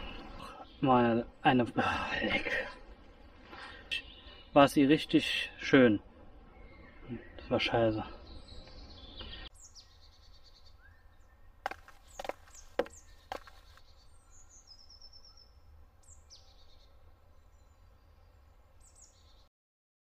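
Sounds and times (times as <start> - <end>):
birds chirping and trilling: 0.0 - 19.5.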